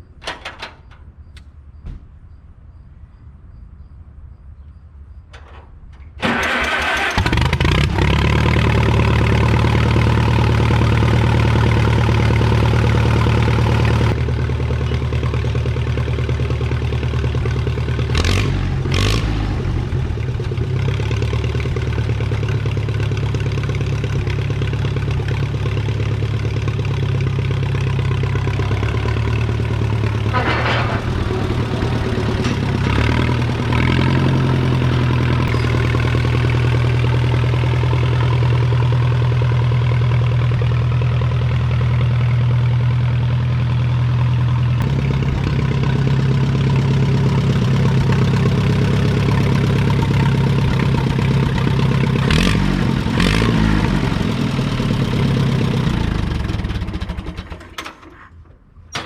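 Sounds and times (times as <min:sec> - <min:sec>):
tractor engine idling: 0:05.3 - 0:59.0.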